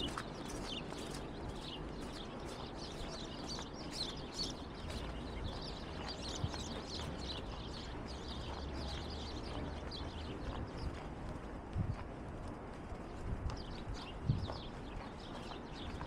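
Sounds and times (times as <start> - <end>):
small birds chirping: 0.0 - 11.9, 13.0 - 16.0
low city rumble: 0.0 - 16.0.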